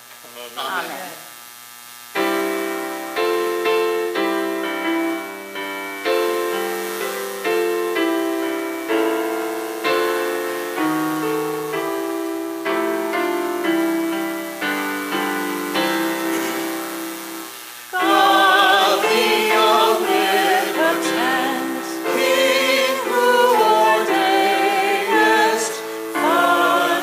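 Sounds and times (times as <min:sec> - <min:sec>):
piano playing slow hymn chords: 0:02.2 - 0:27.0.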